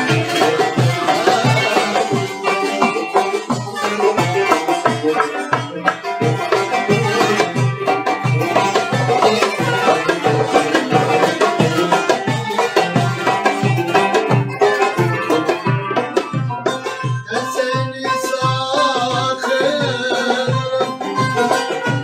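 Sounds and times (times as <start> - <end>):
melodic folk instrument: 0.0 - 22.0.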